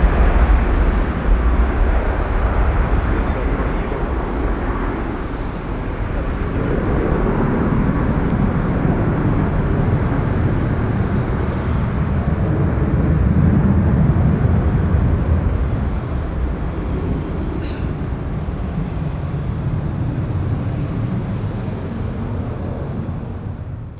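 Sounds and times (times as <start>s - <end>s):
jet engines rumbling at takeoff: 0.0s - 23.9s.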